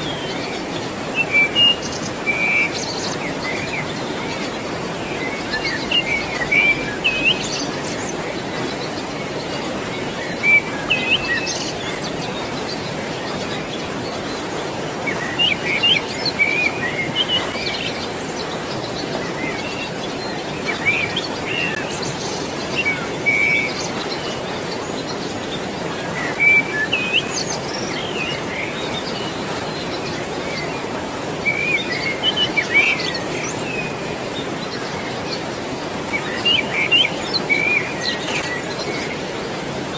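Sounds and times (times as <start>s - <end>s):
birds chirping: 0.0s - 39.9s
flowing water rushing: 0.0s - 39.9s.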